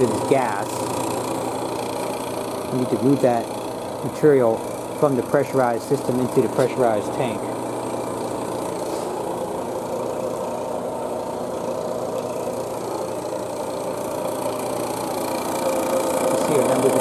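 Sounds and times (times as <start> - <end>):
compressor humming: 0.0 - 17.0.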